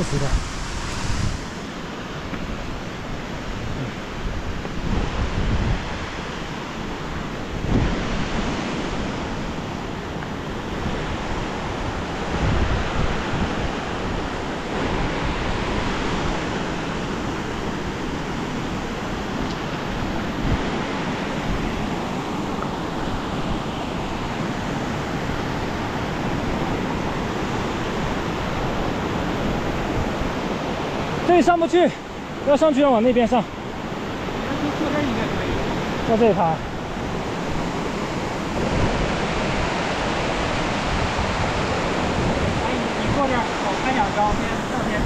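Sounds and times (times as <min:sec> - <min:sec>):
wind buffeting microphone: 0:00.0 - 0:31.2, 0:33.1 - 0:45.0
stream rushing: 0:00.0 - 0:45.0.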